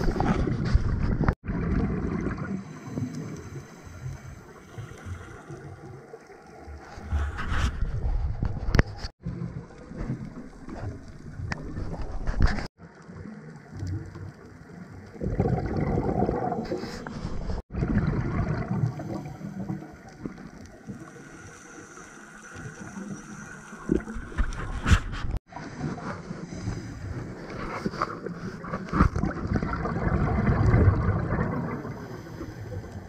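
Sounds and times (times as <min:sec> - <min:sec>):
scuba regulator bubbles gurgling: 0:00.0 - 0:07.0, 0:09.2 - 0:24.7, 0:25.6 - 0:33.0.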